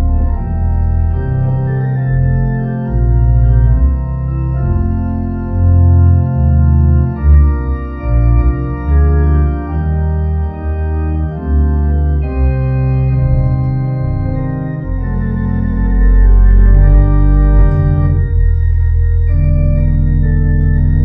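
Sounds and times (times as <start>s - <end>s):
organ music: 0.0s - 21.0s.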